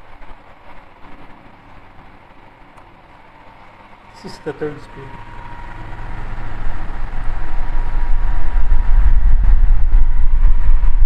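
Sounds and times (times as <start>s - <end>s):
box fan running: 0.0s - 11.0s.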